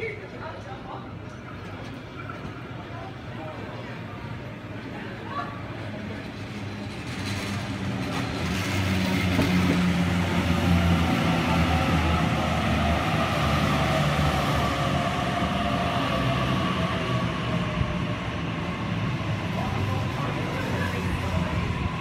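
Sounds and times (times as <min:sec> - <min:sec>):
train wheels rumbling on rails: 0:01.1 - 0:22.0.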